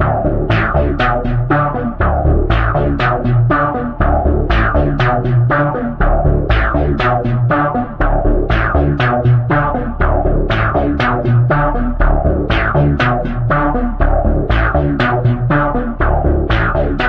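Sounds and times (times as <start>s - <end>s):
heavy bass: 0.0s - 17.0s
synthesizer notes: 0.0s - 17.0s.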